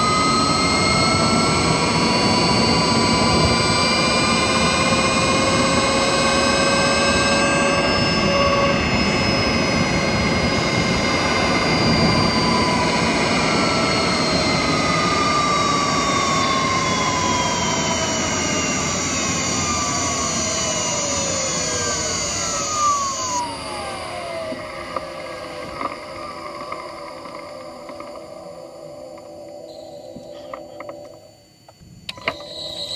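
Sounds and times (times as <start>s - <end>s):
electric motor whine: 0.0s - 32.9s
high inverter tone: 0.0s - 32.9s.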